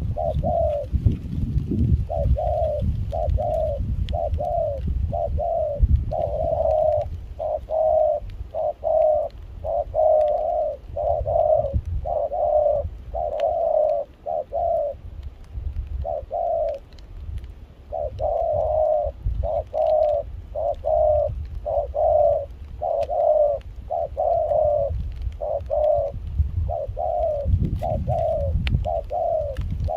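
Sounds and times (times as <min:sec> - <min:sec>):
dove cooing: 0:00.0 - 0:15.1, 0:15.9 - 0:17.0, 0:17.8 - 0:29.9.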